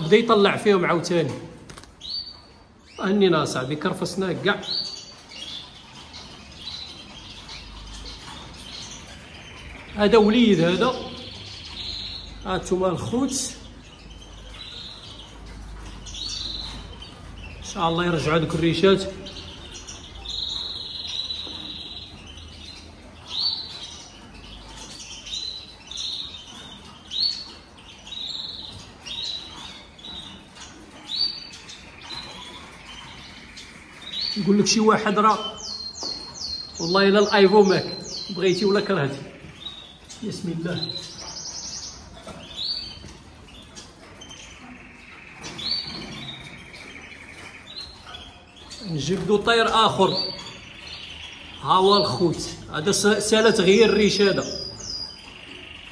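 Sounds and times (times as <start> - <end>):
finches chirping: 0.0 - 55.9.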